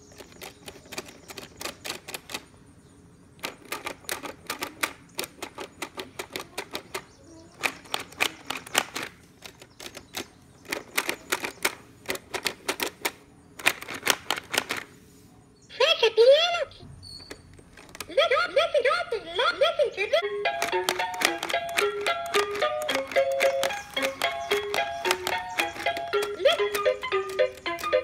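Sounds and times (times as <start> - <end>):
toy piano keys clacking: 0.0 - 2.5, 3.4 - 14.9, 17.2 - 28.0.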